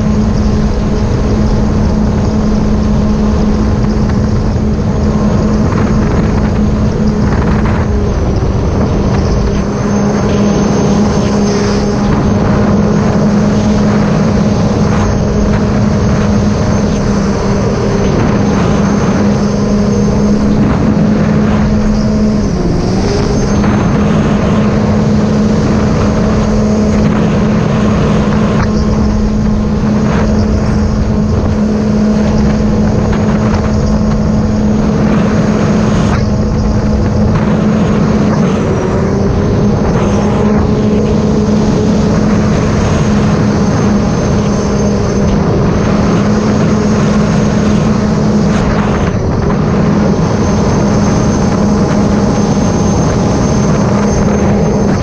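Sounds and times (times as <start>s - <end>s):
jet ski engine droning: 0.0s - 55.0s.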